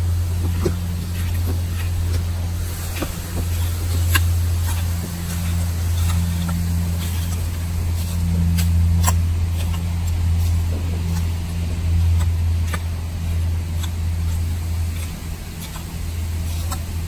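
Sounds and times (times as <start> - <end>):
rake scraping through dry soil: 0.0 - 17.0
steady low motor hum: 0.0 - 17.0.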